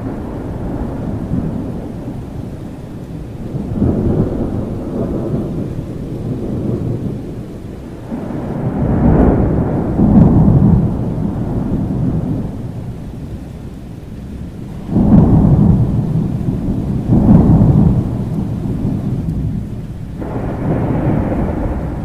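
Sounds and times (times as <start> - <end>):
rolling thunder: 0.0 - 22.0
steady rain: 0.0 - 22.0.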